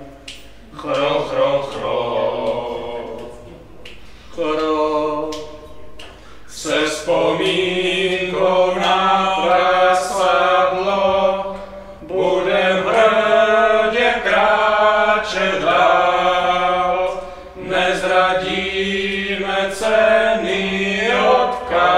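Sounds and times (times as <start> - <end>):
men singing a slow chant: 0.6 - 5.7, 6.5 - 21.9.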